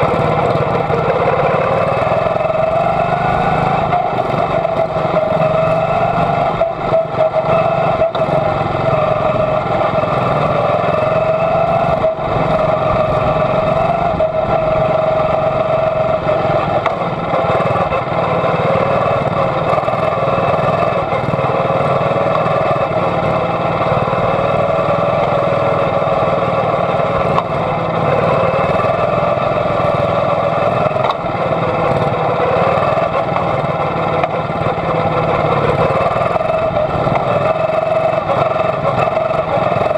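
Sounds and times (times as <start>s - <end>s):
small racing engine running hard: 0.0s - 39.9s.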